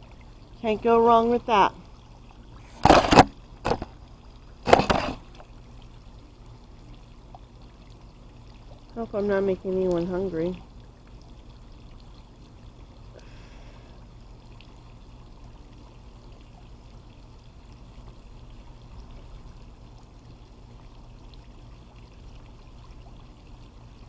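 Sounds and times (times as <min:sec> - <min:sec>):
swimming pool water lapping: 0:00.0 - 0:24.0.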